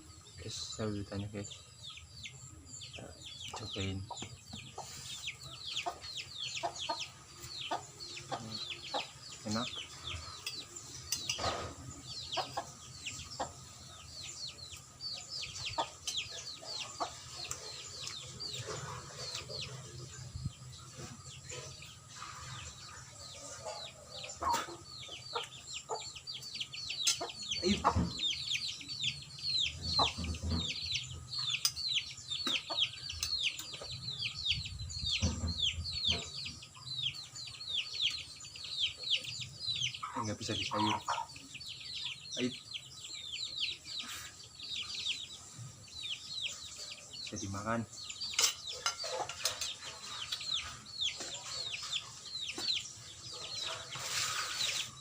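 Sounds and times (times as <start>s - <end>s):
chickens peeping: 0.0s - 55.0s.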